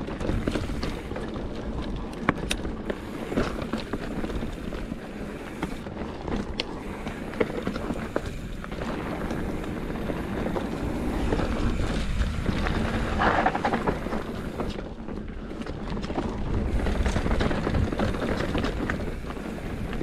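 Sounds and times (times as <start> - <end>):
bike rattles and knocks: 0.0 - 20.0
tyres rumbling on stony ground: 0.0 - 20.0
wind buffeting microphone: 0.0 - 20.0.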